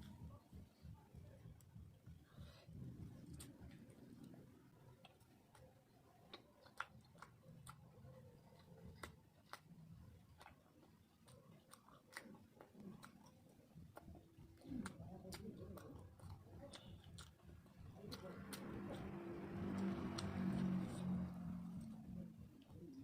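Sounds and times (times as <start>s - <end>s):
person chewing food: 2.0s - 23.0s.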